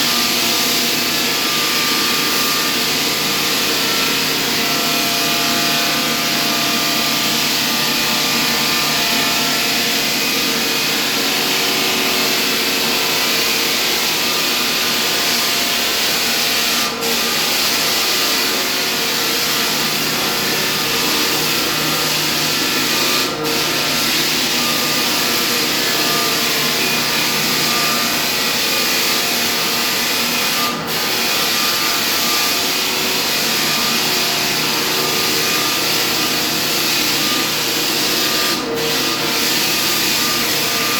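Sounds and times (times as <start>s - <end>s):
floor sander grinding: 0.0s - 40.9s.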